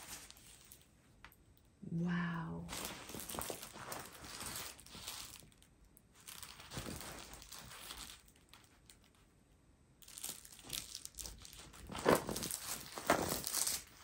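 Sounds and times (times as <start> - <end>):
plastic film crinkling: 0.0 - 1.0, 2.7 - 9.3, 10.0 - 14.0.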